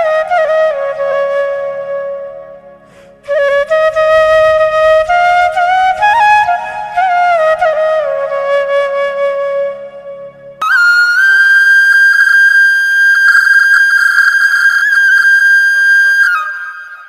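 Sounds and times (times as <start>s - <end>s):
slow flute melody: 0.0s - 17.0s.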